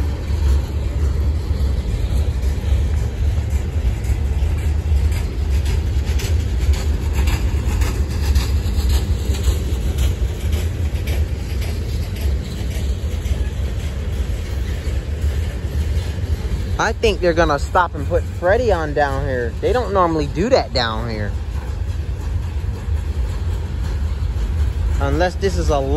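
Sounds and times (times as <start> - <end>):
freight train rumbling past: 0.0 - 25.9
wheels clicking on rails: 0.0 - 25.9.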